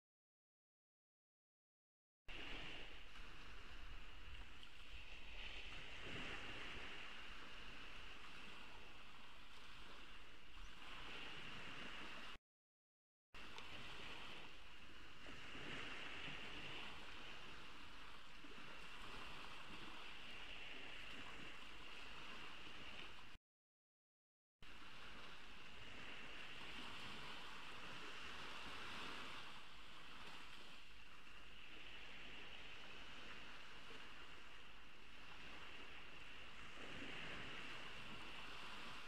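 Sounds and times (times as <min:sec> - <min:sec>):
ocean waves washing onto beach: 0:02.3 - 0:12.4, 0:13.4 - 0:23.4, 0:24.6 - 0:39.0.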